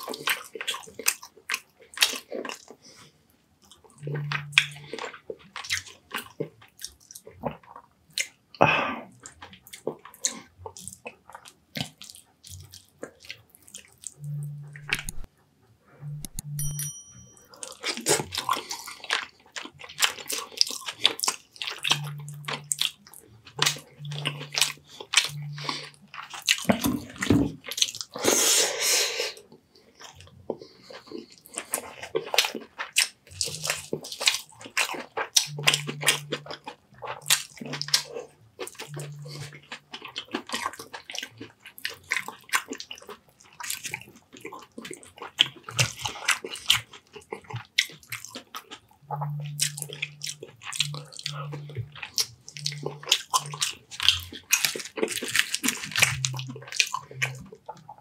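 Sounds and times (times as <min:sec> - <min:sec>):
wet chewing and lip-smacking: 0:00.0 - 0:15.3, 0:17.3 - 0:28.3, 0:29.4 - 0:58.0.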